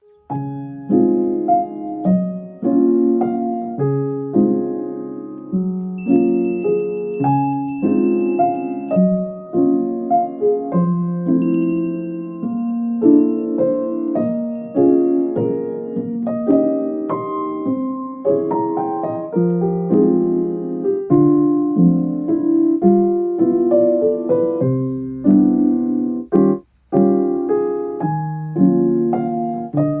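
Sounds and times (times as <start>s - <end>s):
gentle piano piece: 0.0s - 30.0s.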